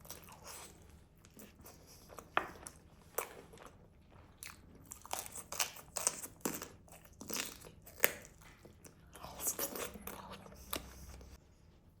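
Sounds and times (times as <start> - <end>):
crunchy chewing of chicken: 0.0 - 11.4.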